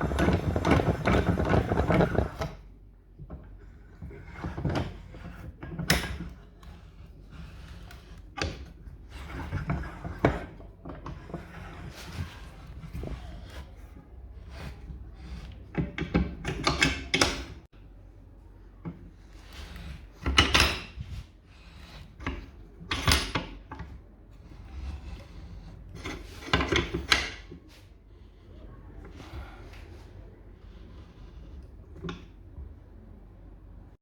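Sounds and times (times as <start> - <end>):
wooden parts sliding and knocking: 0.0 - 17.7, 18.8 - 28.4.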